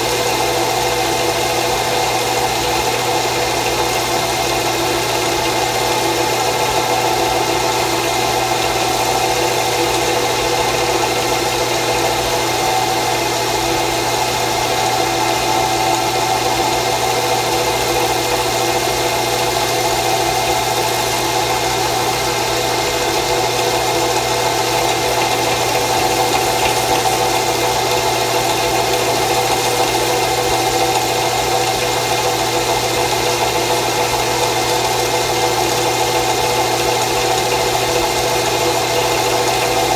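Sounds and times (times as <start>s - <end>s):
drill press motor hum: 0.0s - 39.9s.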